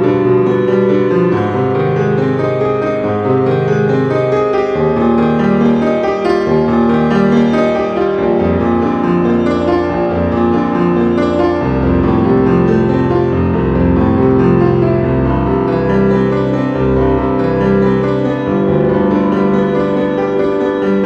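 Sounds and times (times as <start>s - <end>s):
piano background music: 0.0s - 21.0s.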